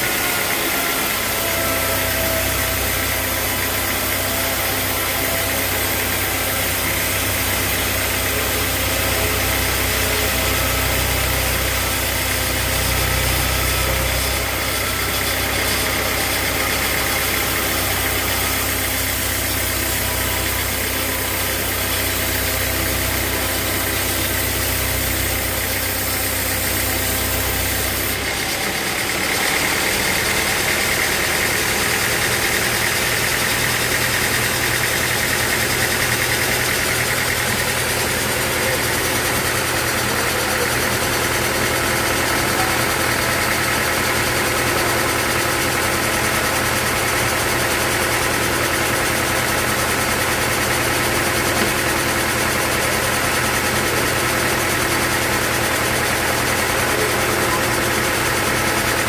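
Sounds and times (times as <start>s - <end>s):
sawmill machinery motor hum: 0.0s - 59.0s.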